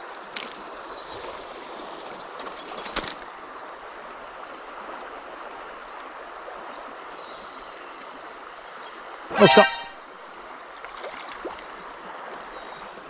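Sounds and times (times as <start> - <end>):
stream water rushing: 0.0 - 7.2, 7.8 - 13.0.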